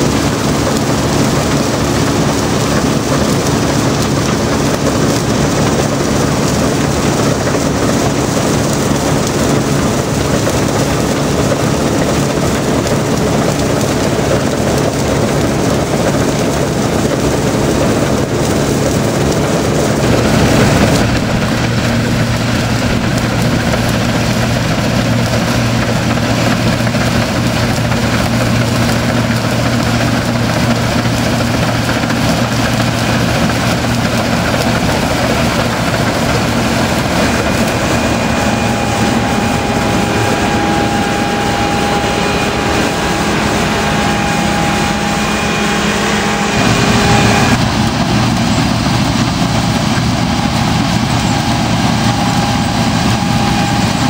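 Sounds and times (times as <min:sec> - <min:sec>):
combine harvester running: 0:00.0 - 0:54.0
low engine hum: 0:00.0 - 0:54.0.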